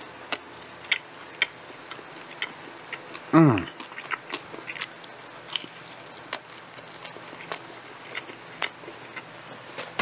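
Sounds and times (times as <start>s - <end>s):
chewing mouth sounds: 0.3s - 10.0s.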